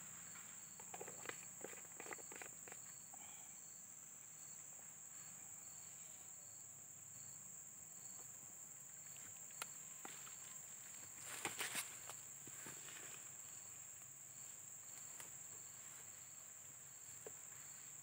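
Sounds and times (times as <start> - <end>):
cricket chirping: 0.0 - 18.0
faint high insect drone: 0.0 - 18.0.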